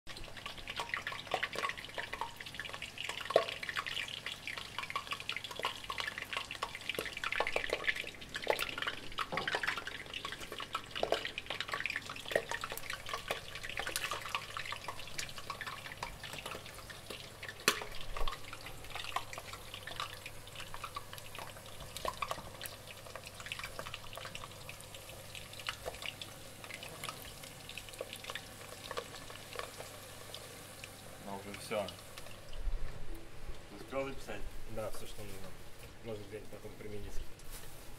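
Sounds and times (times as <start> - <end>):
cutlets sizzling in hot oil: 0.1 - 32.6
oil pops and crackles: 0.1 - 33.6.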